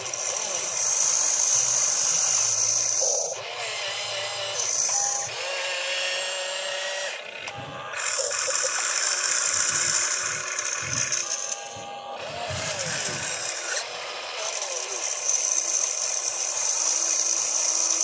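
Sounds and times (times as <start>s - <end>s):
small electric motors whining: 0.0s - 18.0s.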